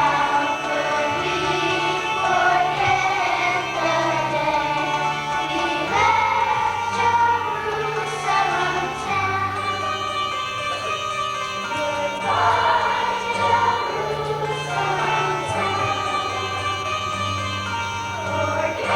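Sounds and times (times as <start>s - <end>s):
choir singing: 0.0s - 18.9s
instrumental accompaniment: 0.0s - 18.9s.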